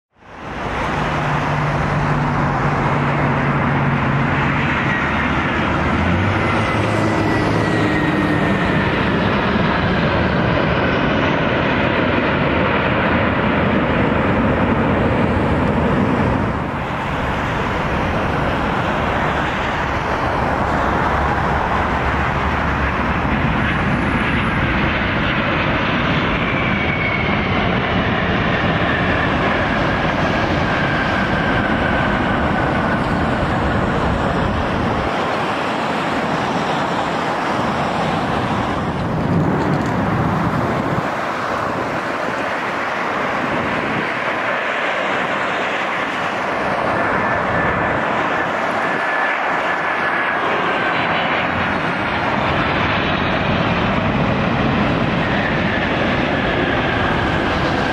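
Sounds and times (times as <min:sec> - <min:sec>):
jet engines roaring with whine: 0:00.1 - 0:57.9.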